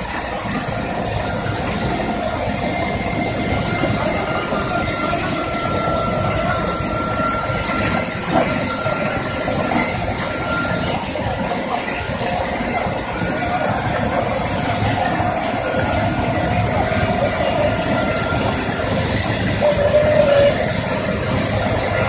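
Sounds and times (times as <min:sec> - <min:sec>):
heavy machine diesel din: 0:00.0 - 0:22.0
thin high squeal: 0:01.1 - 0:13.7, 0:14.8 - 0:22.0.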